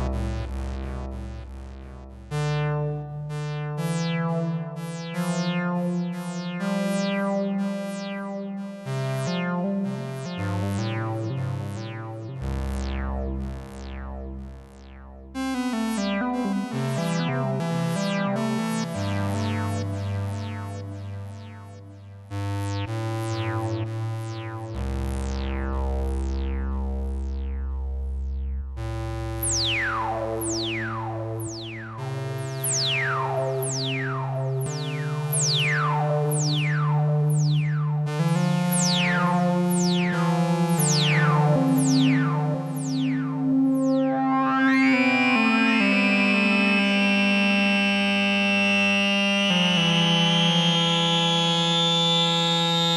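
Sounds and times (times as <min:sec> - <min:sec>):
synth bass notes: 0:00.0 - 0:52.9.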